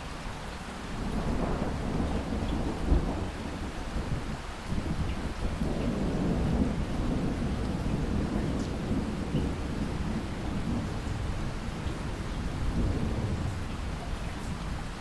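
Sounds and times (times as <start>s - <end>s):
steady rainfall: 0.0s - 15.0s
distant thunder rumble: 0.9s - 15.0s.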